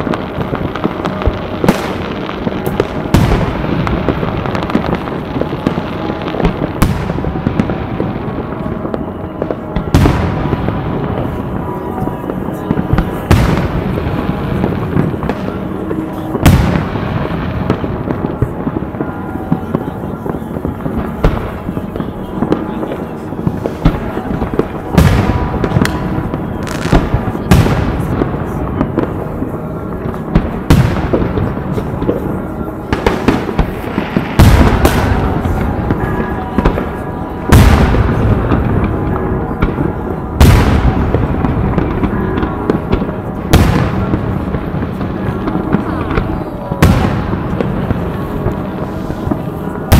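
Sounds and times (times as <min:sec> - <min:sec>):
distant explosions: 0:00.0 - 0:49.9
fireworks bangs: 0:00.0 - 0:49.9
fireworks crackling: 0:00.0 - 0:49.9.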